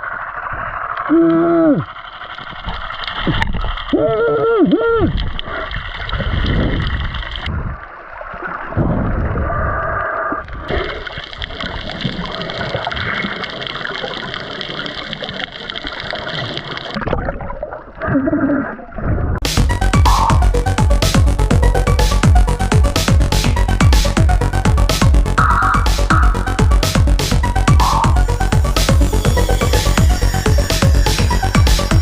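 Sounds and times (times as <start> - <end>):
sea water gurgling and splashing: 0.0 - 32.0.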